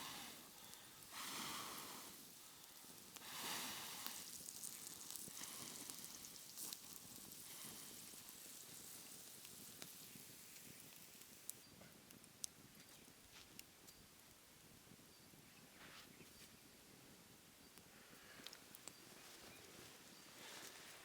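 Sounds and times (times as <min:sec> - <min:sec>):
campfire sizzling and crackling: 0:00.0 - 0:15.0, 0:17.7 - 0:21.0.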